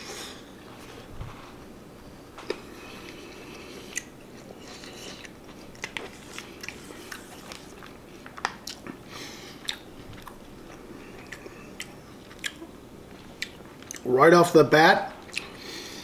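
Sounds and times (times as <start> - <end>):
man chewing food: 0.0 - 14.1, 15.1 - 16.0.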